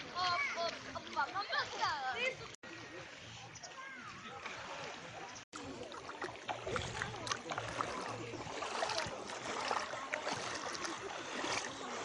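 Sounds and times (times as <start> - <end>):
bare feet wading in water: 0.0 - 12.0
shallow water splashing: 0.0 - 12.0.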